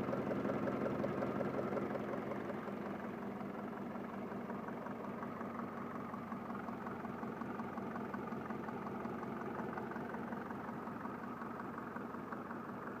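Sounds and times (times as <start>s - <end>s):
diesel engine idling roughly: 0.0s - 13.0s.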